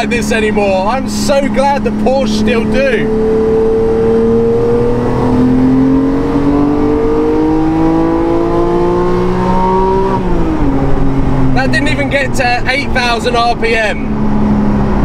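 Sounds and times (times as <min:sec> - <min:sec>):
car engine revving hard: 0:00.0 - 0:12.1.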